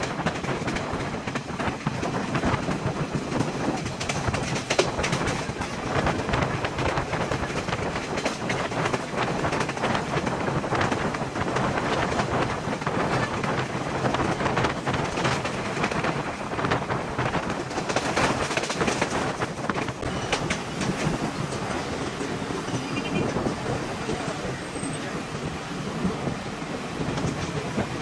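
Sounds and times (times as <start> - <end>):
train rushing run noise: 0.0 - 28.0
wheels clacking over rails: 0.0 - 28.0.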